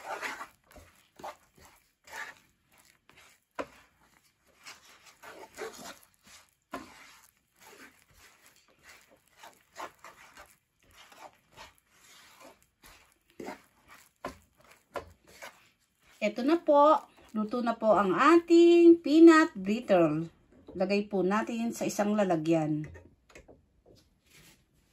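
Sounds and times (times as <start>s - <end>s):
wooden spatula scraping pan: 0.0s - 22.1s.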